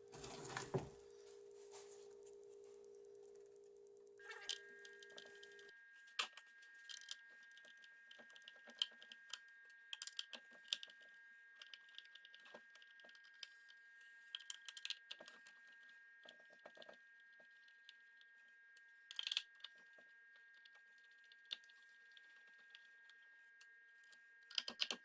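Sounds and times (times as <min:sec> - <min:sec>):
faint high whine: 0:00.0 - 0:24.5.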